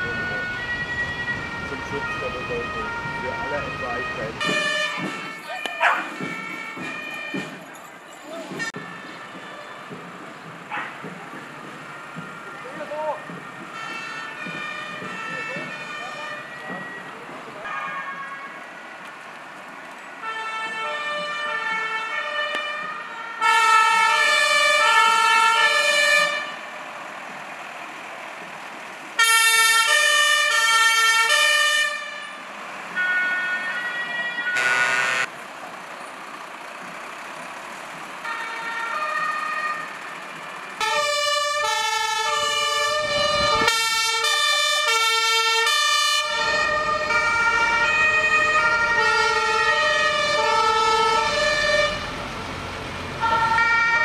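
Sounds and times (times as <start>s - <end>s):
two-tone fire engine sirens: 0.0s - 35.3s, 36.8s - 54.0s.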